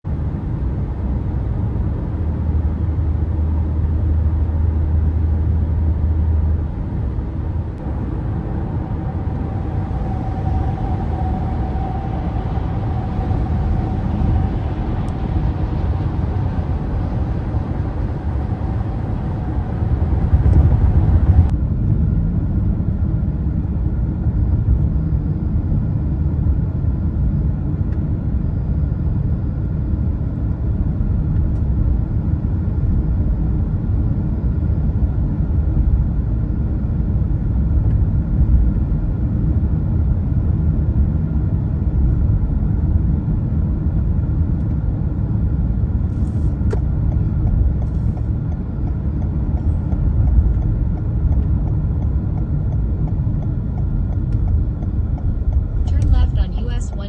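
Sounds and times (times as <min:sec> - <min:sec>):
car cabin road rumble: 0:00.0 - 0:28.4, 0:29.9 - 0:57.0.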